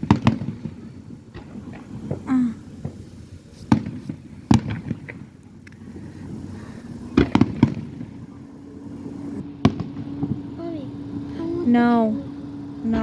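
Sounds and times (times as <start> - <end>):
small fireworks pops: 0.0 - 11.3
fireworks booming: 0.0 - 13.0.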